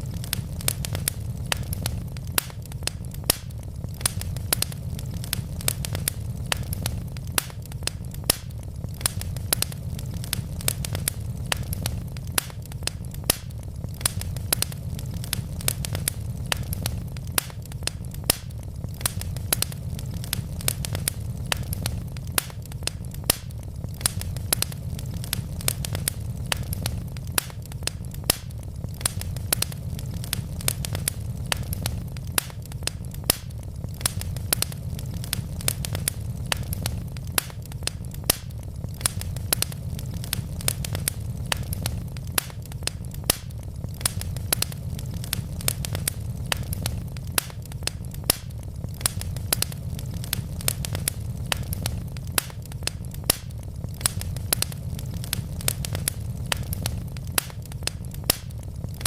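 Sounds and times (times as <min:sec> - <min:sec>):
fire crackling and popping: 0:00.0 - 0:59.0
flames rumbling: 0:00.0 - 0:59.0.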